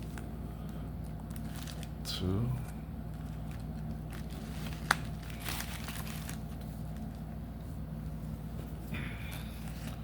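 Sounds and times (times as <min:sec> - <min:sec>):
card packs crinkling: 0:00.0 - 0:07.4, 0:09.3 - 0:10.0
steady low hum: 0:00.0 - 0:10.0.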